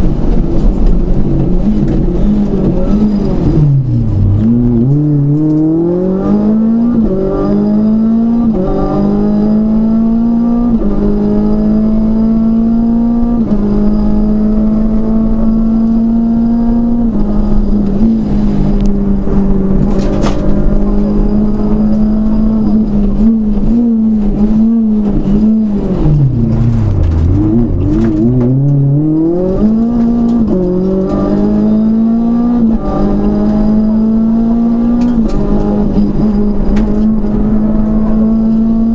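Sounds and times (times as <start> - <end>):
car engine revving through gears: 0.0 - 38.9.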